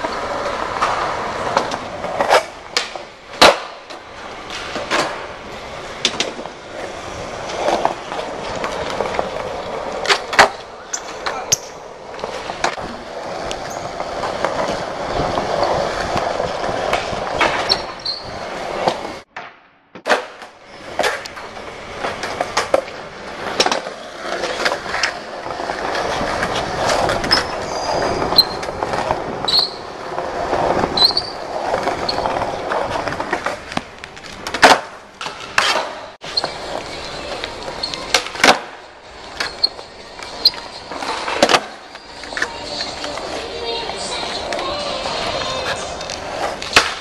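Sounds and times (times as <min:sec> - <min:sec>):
skateboard clacks: 0:00.0 - 0:47.0
skateboard wheels rolling on stone: 0:00.0 - 0:47.0.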